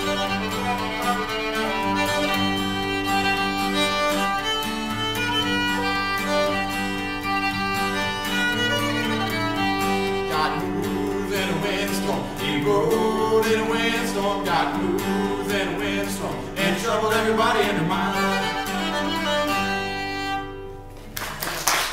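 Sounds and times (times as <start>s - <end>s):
fiddle melody: 0.0s - 21.2s
strummed guitar: 0.0s - 21.4s.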